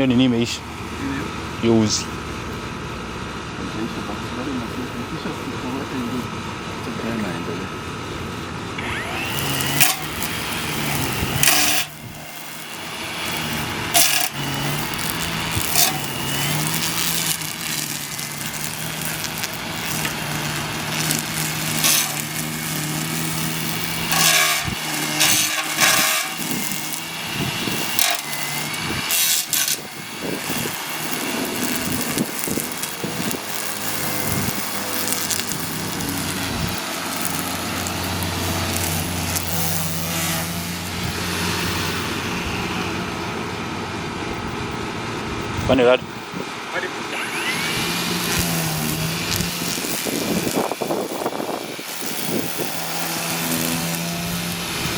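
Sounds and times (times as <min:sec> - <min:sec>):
string trimmer running: 0:08.0 - 0:54.9.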